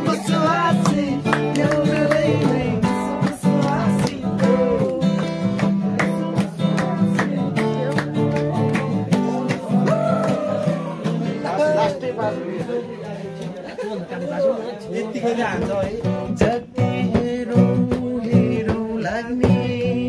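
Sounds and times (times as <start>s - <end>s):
person singing: 0.0s - 13.1s, 16.2s - 20.0s
acoustic guitar strumming: 0.0s - 13.7s, 15.4s - 20.0s.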